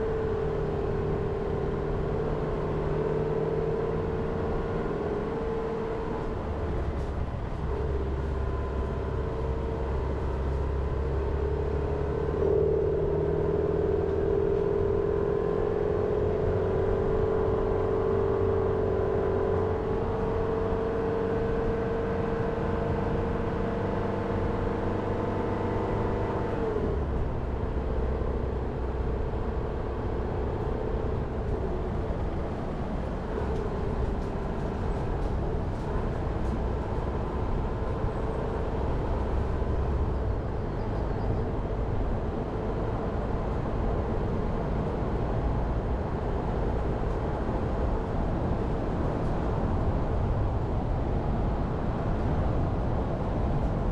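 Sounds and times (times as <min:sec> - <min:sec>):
tyre and road noise: 0:00.0 - 0:19.2, 0:24.5 - 0:53.9
car engine drone: 0:00.0 - 0:53.9.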